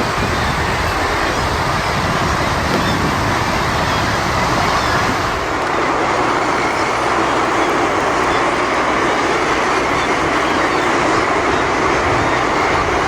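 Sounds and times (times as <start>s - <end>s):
boat engine: 0.0s - 13.0s
water noise: 0.0s - 13.0s.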